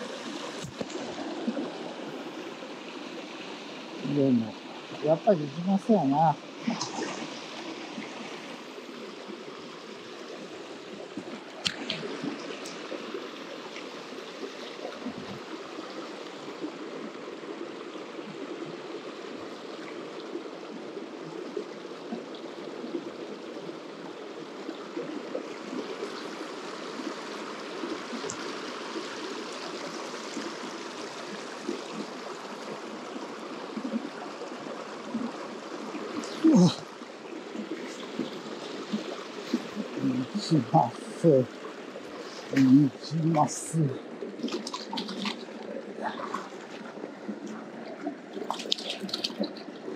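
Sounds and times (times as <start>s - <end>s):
stream water running over rocks: 0.0s - 49.9s.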